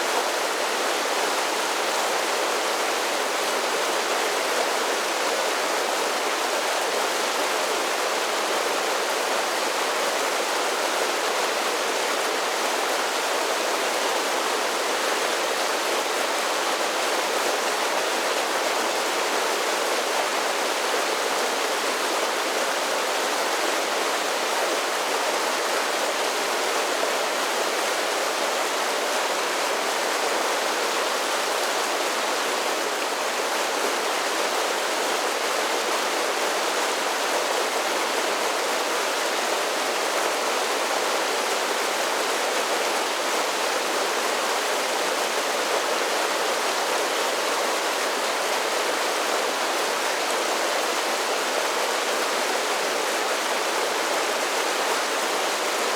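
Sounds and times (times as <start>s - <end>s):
creek rushing over falls: 0.0s - 55.9s.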